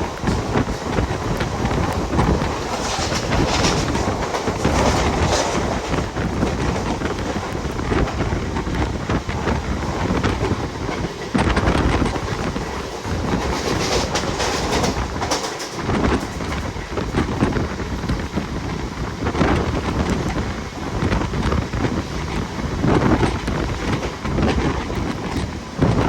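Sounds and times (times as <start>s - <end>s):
train wheels clacking on rails: 0.0s - 26.0s
wind noise on microphone: 0.0s - 26.0s.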